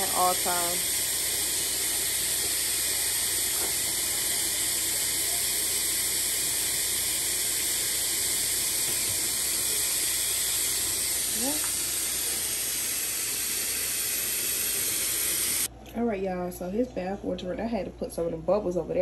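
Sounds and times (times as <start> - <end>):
faucet running into a sink: 0.0 - 15.7.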